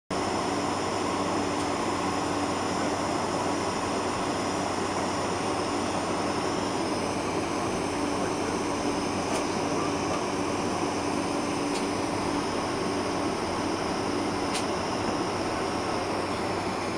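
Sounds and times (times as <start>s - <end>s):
steady low hum: 0.2s - 16.9s.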